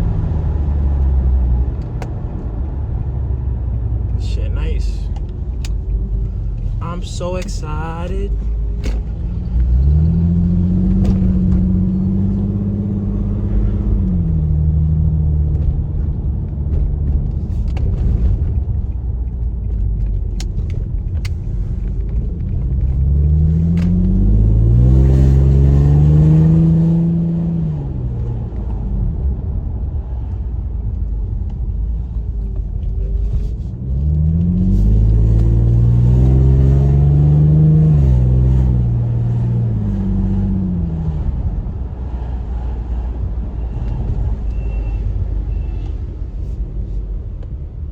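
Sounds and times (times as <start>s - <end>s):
car engine accelerating: 0.0s - 44.6s.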